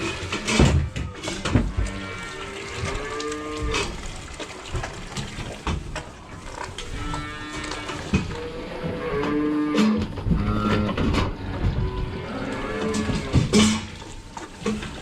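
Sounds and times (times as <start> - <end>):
cows mooing: 0.0 - 5.3, 6.2 - 14.9
clanks and knocks: 0.0 - 15.0.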